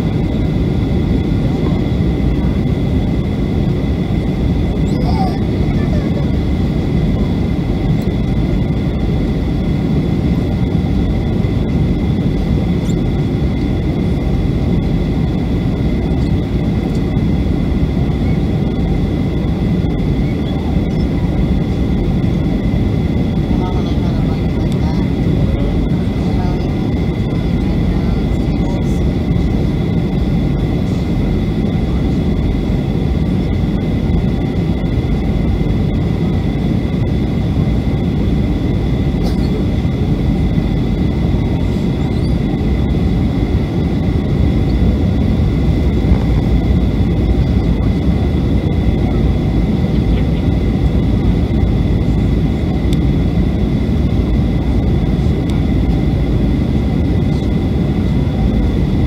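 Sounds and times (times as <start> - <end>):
jet engine and airflow rumble: 0.0 - 59.0.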